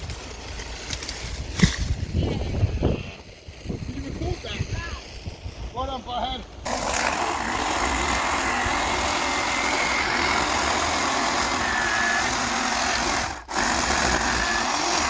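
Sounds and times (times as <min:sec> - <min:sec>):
electric chainsaw motor whining: 0:02.0 - 0:05.7, 0:06.6 - 0:15.0.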